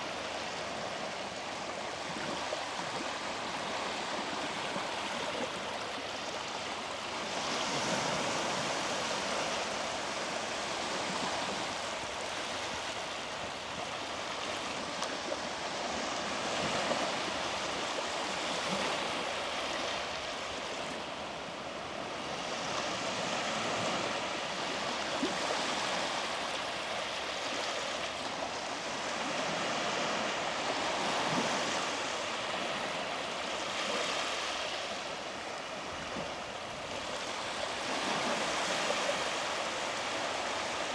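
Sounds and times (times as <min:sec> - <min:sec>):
small waves breaking on a beach: 0:00.0 - 0:40.9.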